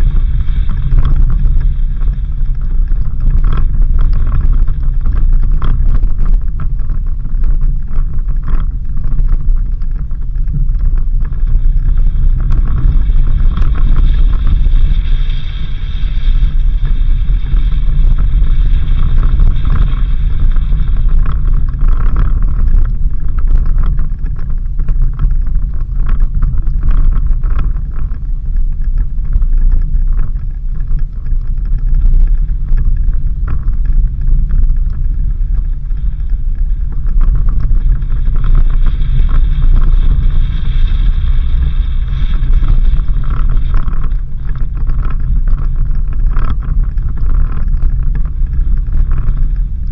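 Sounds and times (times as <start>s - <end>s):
car engine and tyres rumbling: 0.0s - 49.9s.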